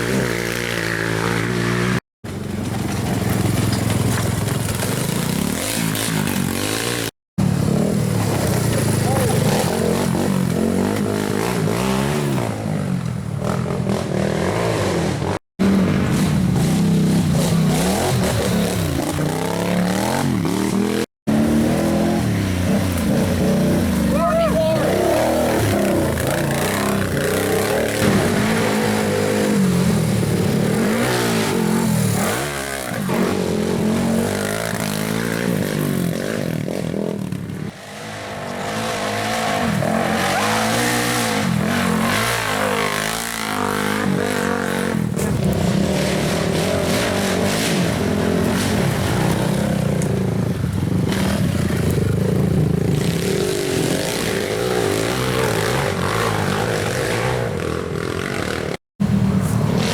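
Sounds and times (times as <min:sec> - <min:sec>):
racing atv engines revving: 0:00.0 - 0:59.9.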